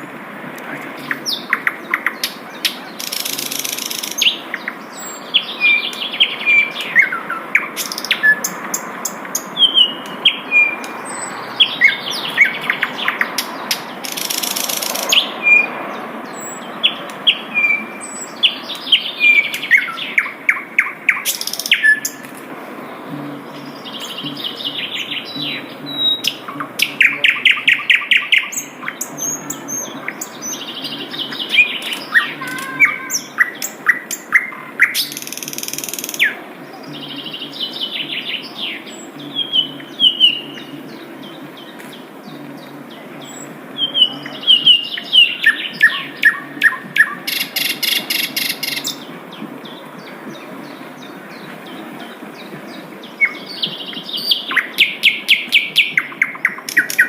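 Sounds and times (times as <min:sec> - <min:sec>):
bird chirping and trilling: 0:01.0 - 0:22.2, 0:22.8 - 0:57.0.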